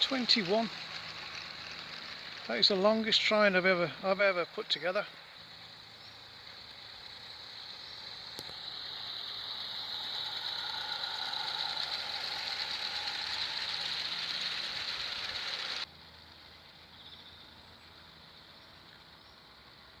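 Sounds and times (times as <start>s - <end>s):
model steam locomotive running: 0.0s - 20.0s.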